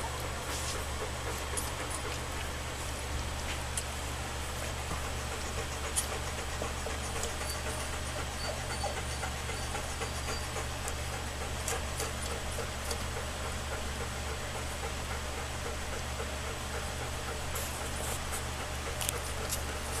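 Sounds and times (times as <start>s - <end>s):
puppies suckling: 0.0s - 20.0s
steady low hum: 0.0s - 20.0s.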